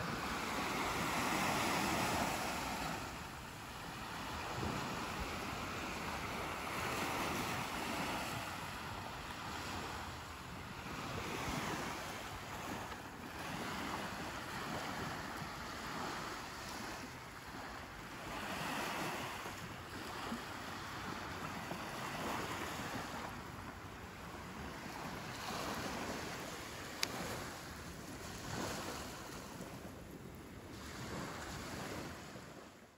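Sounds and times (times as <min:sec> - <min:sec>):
waves washing up a beach: 0:00.0 - 0:32.9.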